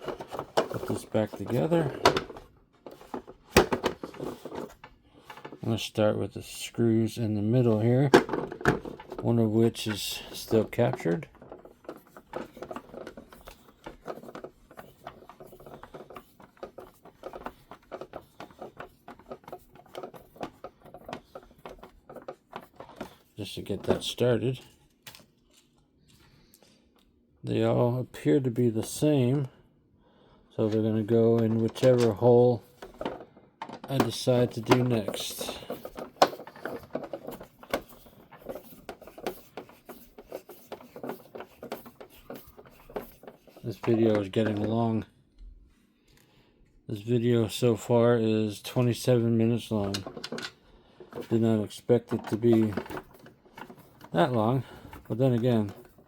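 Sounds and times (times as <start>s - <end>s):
plastic parts being handled: 0.0s - 5.9s, 7.6s - 26.2s, 30.6s - 45.0s, 48.7s - 56.0s.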